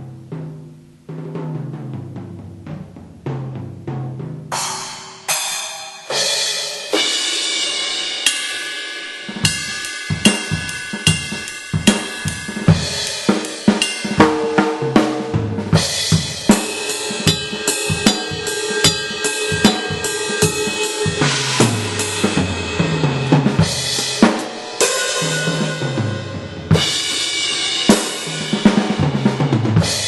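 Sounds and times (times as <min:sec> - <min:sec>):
drum beat: 0:01.2 - 0:30.0
cymbal crashes: 0:04.5 - 0:29.0.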